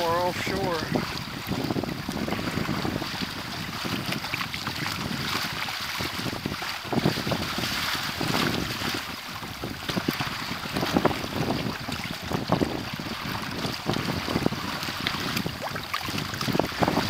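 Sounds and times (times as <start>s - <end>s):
water slapping against hull: 0.0s - 17.0s
wind buffeting microphone: 0.0s - 17.0s.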